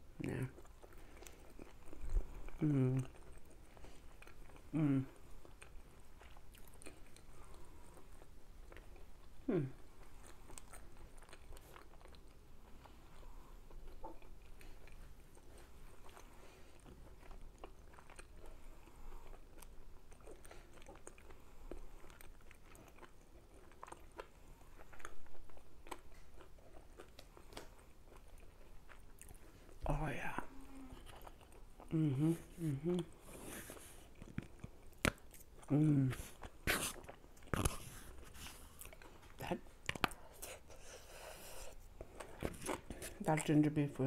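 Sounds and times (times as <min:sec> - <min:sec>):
close chewing with wet clicks: 0:00.2 - 0:29.9, 0:30.6 - 0:32.1, 0:34.0 - 0:40.8.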